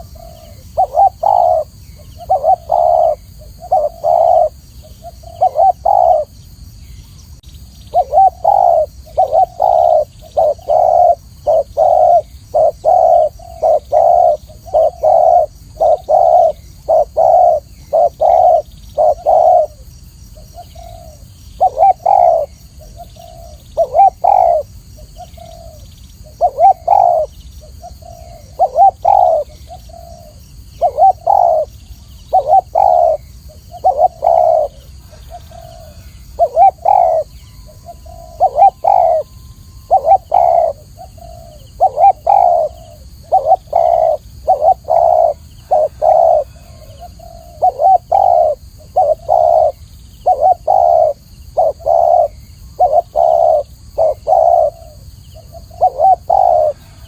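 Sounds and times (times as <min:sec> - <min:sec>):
dove cooing: 0:00.0 - 0:06.4, 0:07.9 - 0:57.0.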